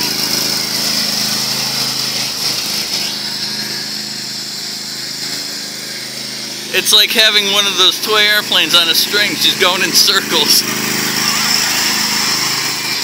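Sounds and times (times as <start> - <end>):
lawn mower engine humming: 0.0 - 13.0.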